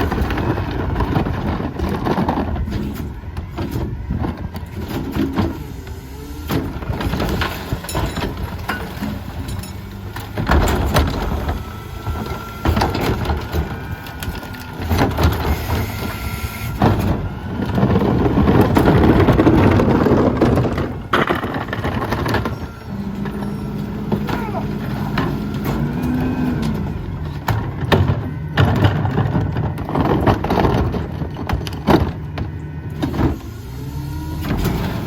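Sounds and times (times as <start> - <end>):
knocks and clatter from hopper: 0.0 - 33.6
garbage truck engine running: 0.0 - 35.0
packer grinding: 0.0 - 35.0.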